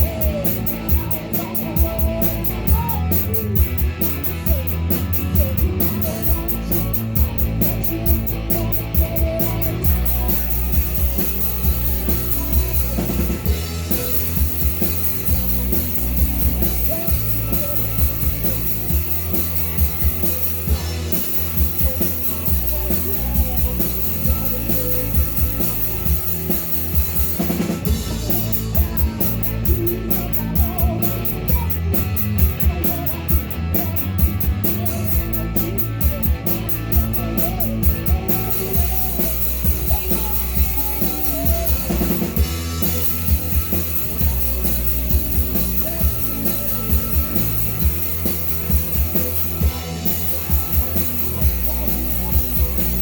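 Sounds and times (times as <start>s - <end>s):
drum kit beat: 0.0s - 53.0s
live rock band playing: 0.0s - 53.0s
person singing: 0.0s - 53.0s.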